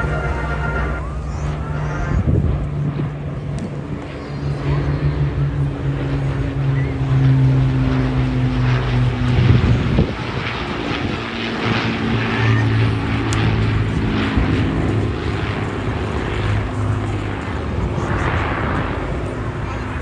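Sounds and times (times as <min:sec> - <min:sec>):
propeller aircraft flying past: 0:00.0 - 0:20.0.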